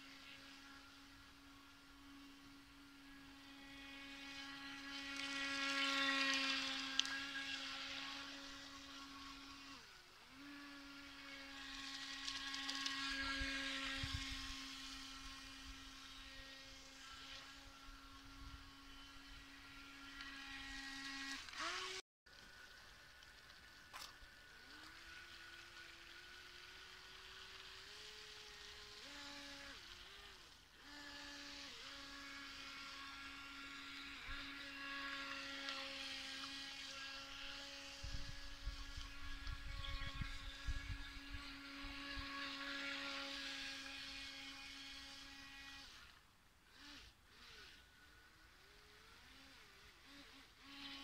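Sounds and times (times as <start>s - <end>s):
electric boat motor whine: 0.0s - 51.0s.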